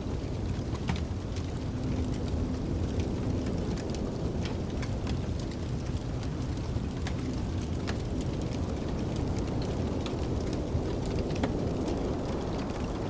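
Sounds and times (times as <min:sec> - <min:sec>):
storm wind rumbling: 0:00.0 - 0:13.0
wood fire crackling: 0:00.0 - 0:13.0.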